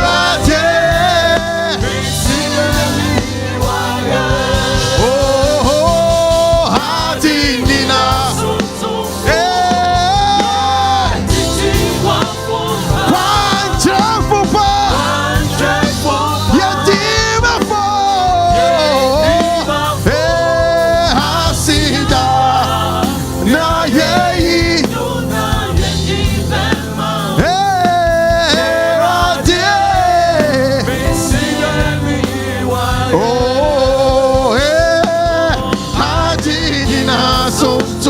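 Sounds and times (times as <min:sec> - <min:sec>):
band with steady beat: 0:00.0 - 0:38.0
person singing gospel: 0:00.0 - 0:38.0.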